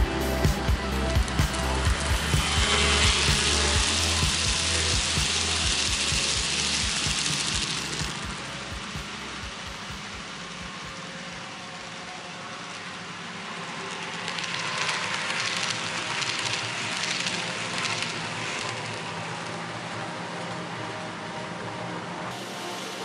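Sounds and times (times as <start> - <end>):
model train wheels rattling on track: 0.6 - 20.7.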